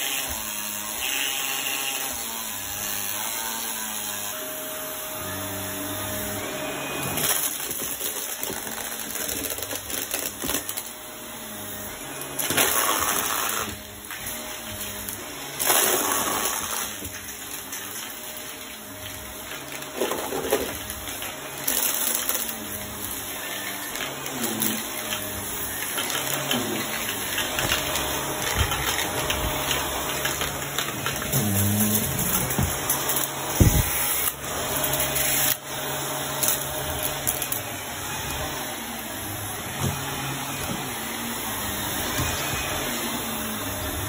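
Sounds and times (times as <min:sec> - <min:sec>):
vacuum cleaner on rug: 0:00.0 - 0:44.0.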